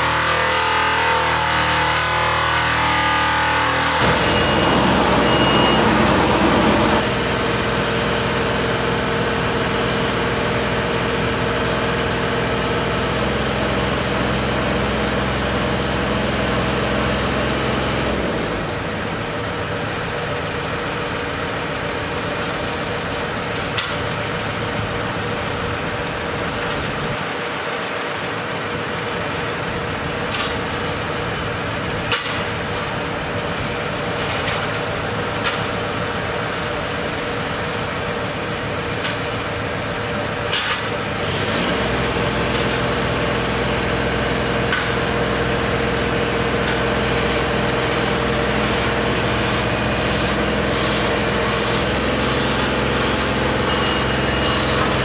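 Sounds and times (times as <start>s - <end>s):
piling rig mechanical drone: 0.0s - 55.0s.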